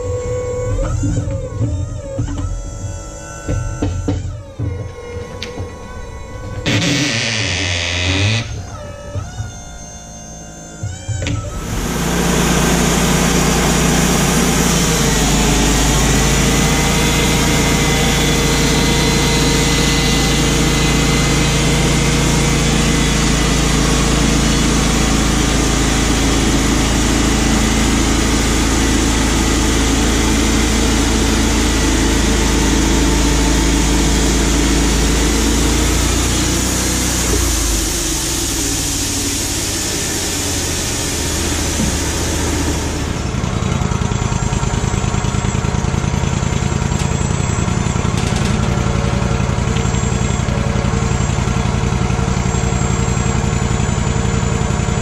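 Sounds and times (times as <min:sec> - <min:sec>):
sawmill engine drone: 0:00.0 - 0:55.0.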